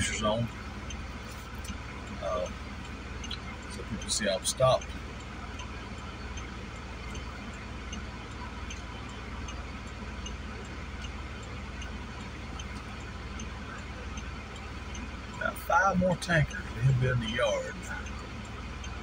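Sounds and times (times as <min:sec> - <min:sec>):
hazard-light flasher ticking: 0:00.0 - 0:19.0
low steady rumble: 0:00.0 - 0:19.0.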